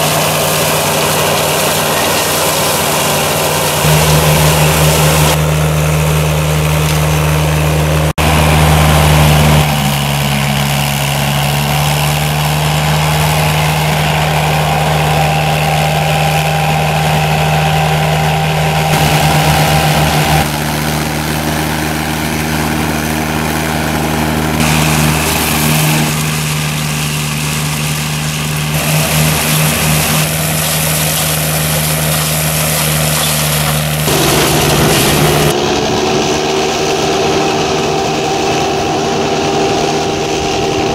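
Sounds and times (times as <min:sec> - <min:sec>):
flail rotor cutting brush: 0:00.0 - 0:35.6
mulcher engine running: 0:00.0 - 0:40.9.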